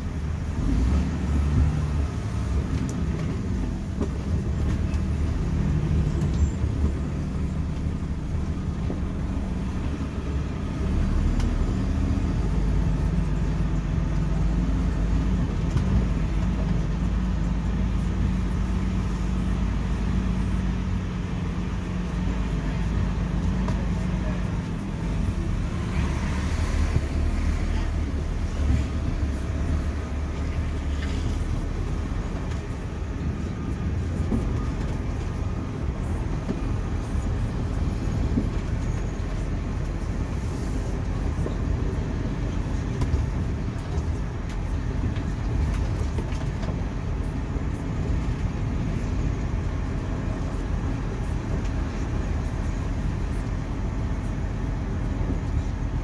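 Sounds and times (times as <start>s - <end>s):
truck diesel engine rumble: 0.0s - 56.0s.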